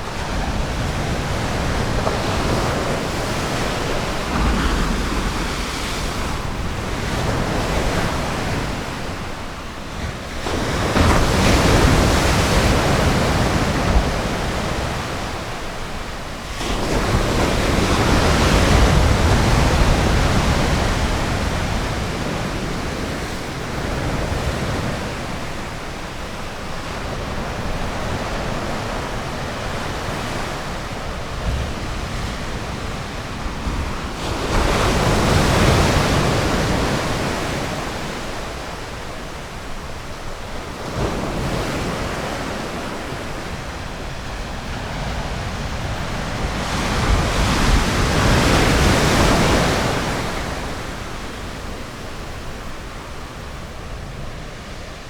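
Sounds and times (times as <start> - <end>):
ocean waves breaking on beach: 0.0 - 55.0
wind on microphone: 0.0 - 55.0.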